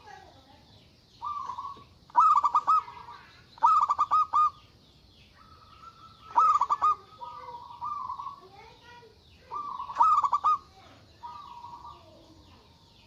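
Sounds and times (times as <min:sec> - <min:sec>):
dove cooing: 0:01.2 - 0:04.7, 0:05.4 - 0:13.0.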